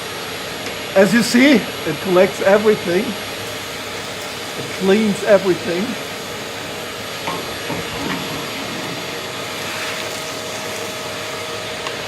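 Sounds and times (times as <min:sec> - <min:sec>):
wet and dry vacuum cleaner running: 0:00.0 - 0:12.0.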